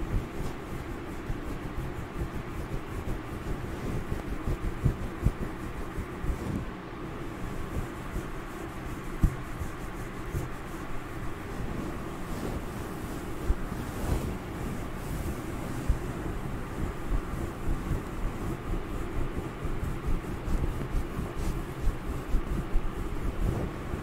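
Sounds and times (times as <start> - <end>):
fingers scratching furry microphone: 0.0 - 6.7, 7.3 - 24.0.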